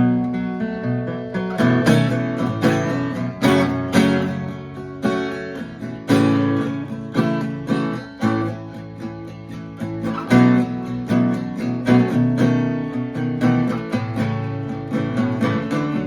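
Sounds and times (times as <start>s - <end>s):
acoustic guitar chords strummed: 0.0s - 16.0s.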